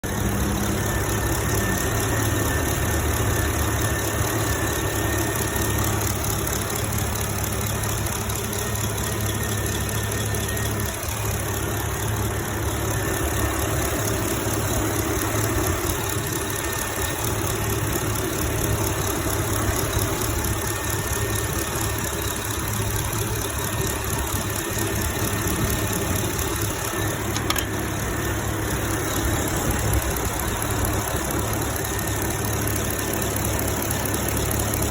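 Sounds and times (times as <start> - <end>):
car engine idling: 0.0 - 34.9
fast engine ticking: 0.0 - 34.9.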